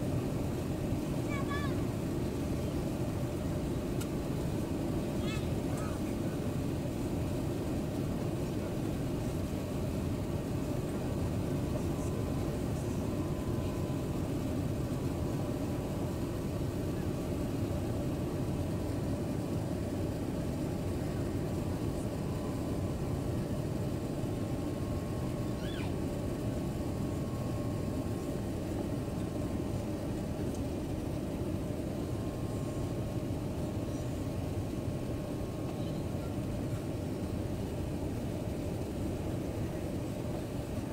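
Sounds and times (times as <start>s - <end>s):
faint high whine: 0.0s - 40.9s
jet engines droning: 0.0s - 40.9s.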